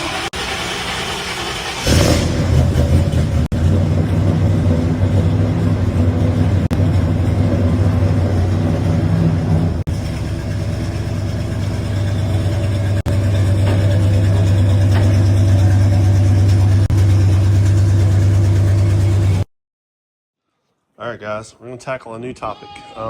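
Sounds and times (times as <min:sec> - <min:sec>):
truck engine idling loudly: 0:00.0 - 0:19.5.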